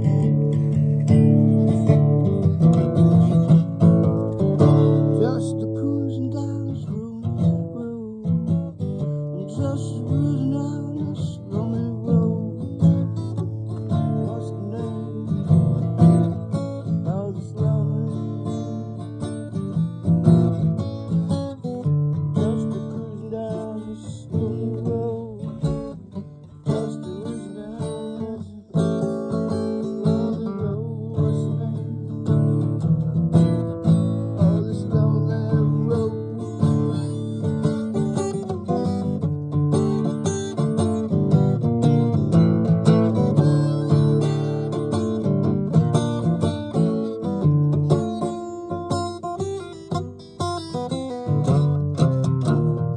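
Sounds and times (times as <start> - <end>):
acoustic guitar chords: 0.0 - 52.9.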